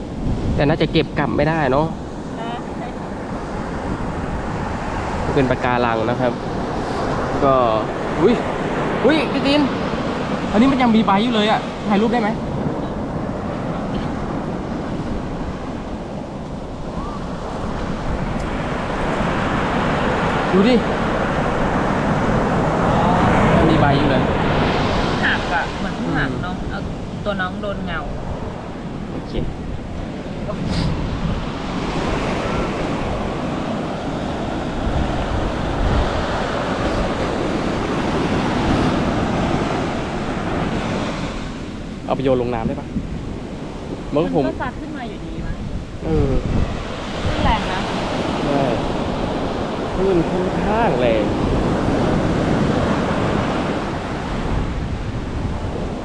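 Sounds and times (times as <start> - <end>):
ocean surf washing onto beach: 0.0 - 56.0
wind buffeting microphone: 0.0 - 56.0.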